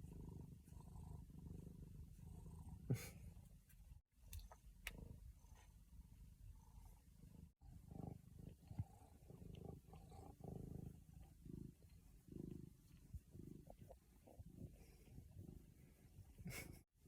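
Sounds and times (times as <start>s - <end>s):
cat purring: 0.0s - 16.8s.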